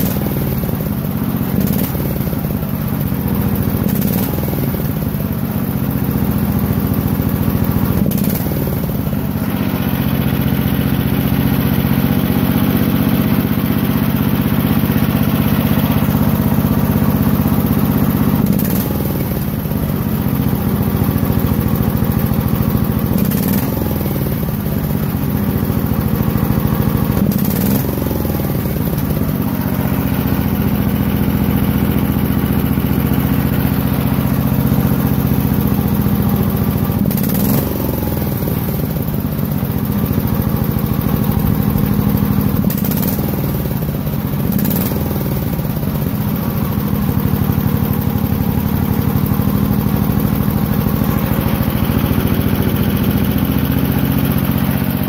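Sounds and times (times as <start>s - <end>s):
small engine running at high speed: 0.0s - 55.0s.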